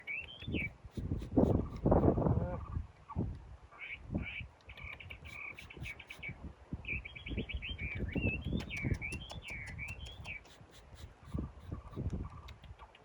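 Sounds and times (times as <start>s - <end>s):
bird chirping and warbling: 0.0s - 13.0s.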